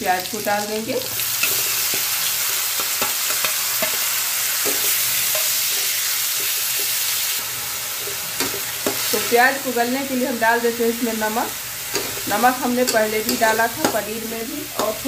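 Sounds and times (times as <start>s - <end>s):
onion sizzling in oil: 0.0s - 15.0s.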